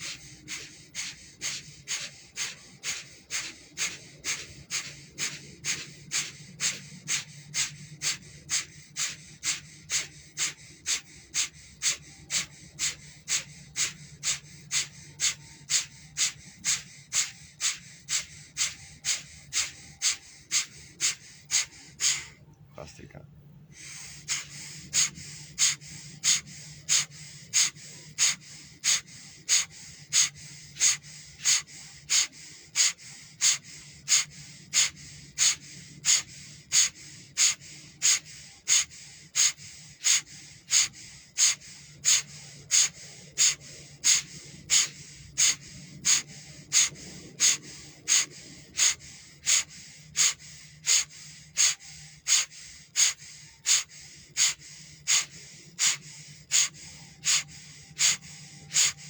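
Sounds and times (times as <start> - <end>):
forceful breathing through nose: 0.0 - 22.4, 23.7 - 59.0.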